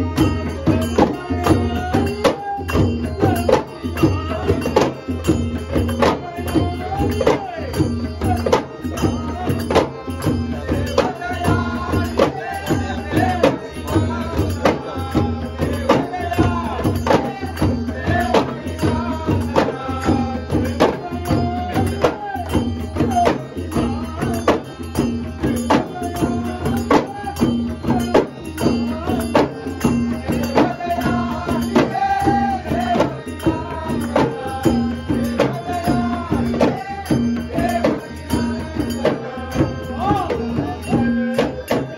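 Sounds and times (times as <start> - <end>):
clay-pot drums beaten: 0.0 - 41.9
elderly man singing: 0.0 - 41.9
harmonium tone: 0.0 - 41.9.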